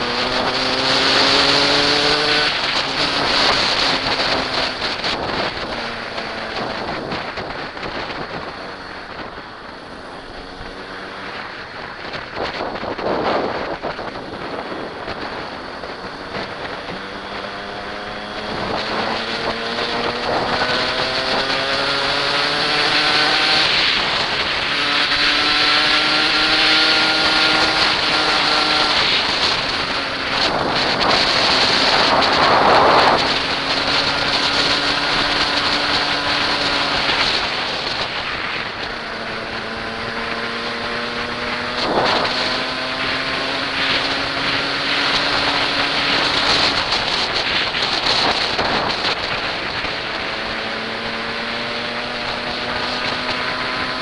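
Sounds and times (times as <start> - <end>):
dirt bike engine accelerating: 0.0 - 54.0
wind over microphone: 0.0 - 54.0.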